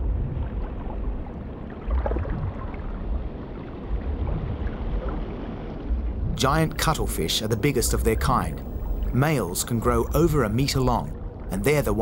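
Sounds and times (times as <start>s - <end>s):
muffled underwater rumble: 0.0s - 12.0s.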